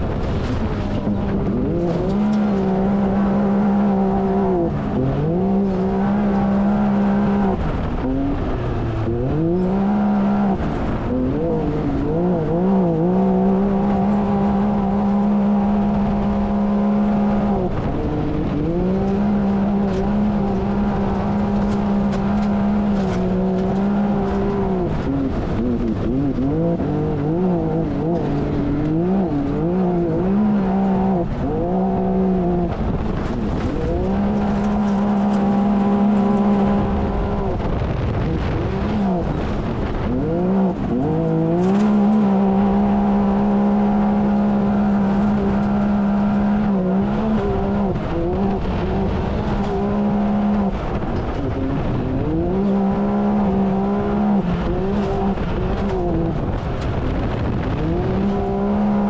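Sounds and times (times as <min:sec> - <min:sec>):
engine revving at race pace: 0:00.0 - 0:59.0.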